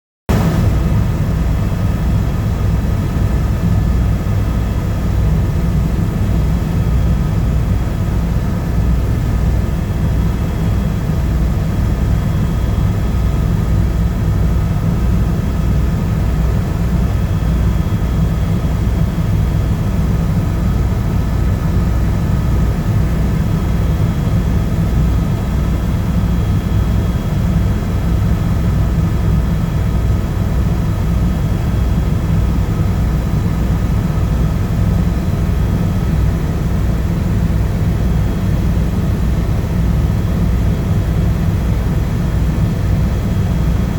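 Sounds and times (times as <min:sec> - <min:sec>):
helicopter rotor beat: 0:00.3 - 0:43.9
turbine whine: 0:00.3 - 0:43.9.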